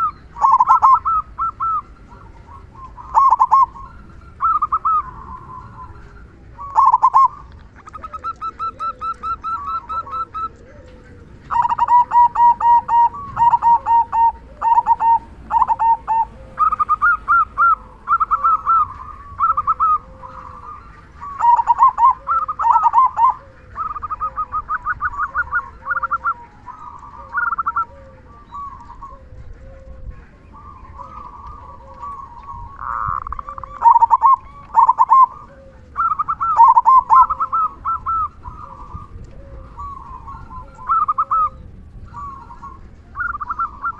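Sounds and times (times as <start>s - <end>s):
dove cooing in staccato runs: 0.0s - 43.9s
fainter lower bird call: 0.0s - 43.9s.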